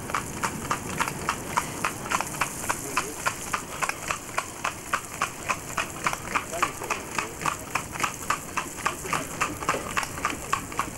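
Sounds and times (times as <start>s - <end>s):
hooves clip-clopping on tarmac: 0.0s - 10.9s.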